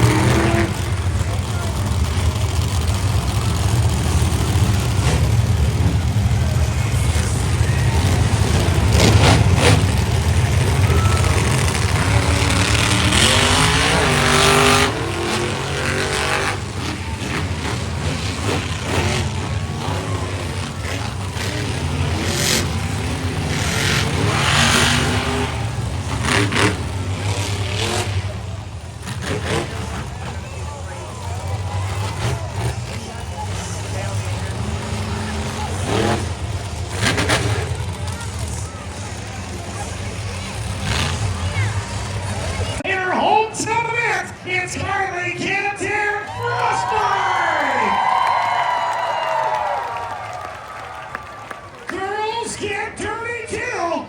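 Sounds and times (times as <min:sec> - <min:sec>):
monster truck engines rumbling: 0:00.0 - 0:54.0.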